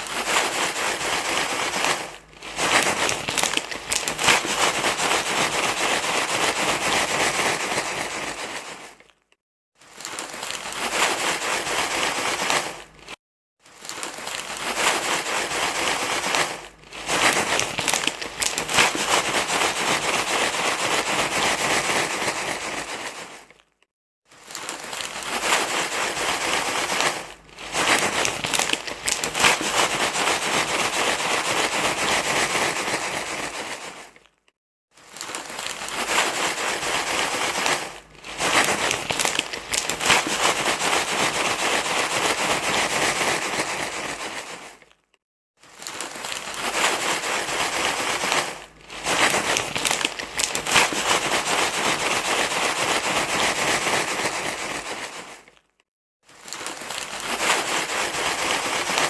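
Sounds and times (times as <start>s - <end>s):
crumpled material crinkling: 0.0s - 59.0s.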